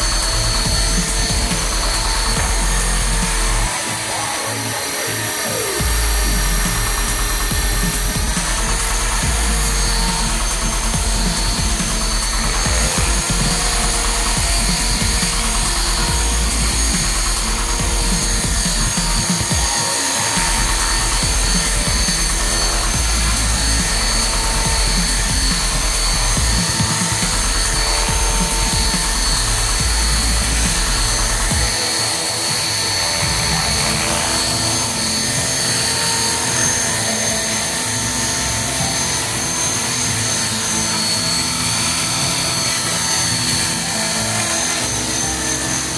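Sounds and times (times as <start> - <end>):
rc helicopter motor whine: 0.0 - 45.9.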